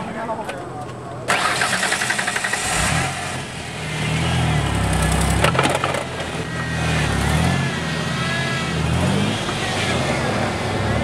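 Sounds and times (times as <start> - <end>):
engine revving under load: 1.3 - 11.0.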